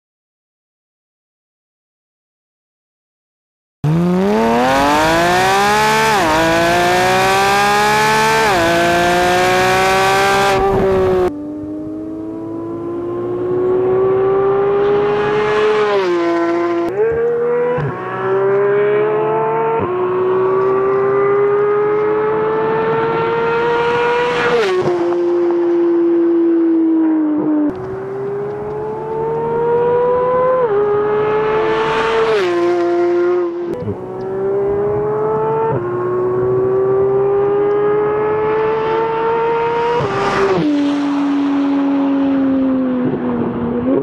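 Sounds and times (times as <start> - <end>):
car engine accelerating with upshifts: 3.8 - 44.0.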